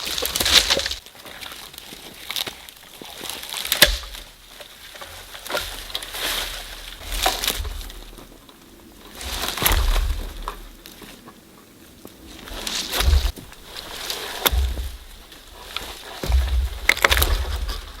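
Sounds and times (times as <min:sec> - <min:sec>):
dry wood crackling and snapping: 0:00.0 - 0:18.0.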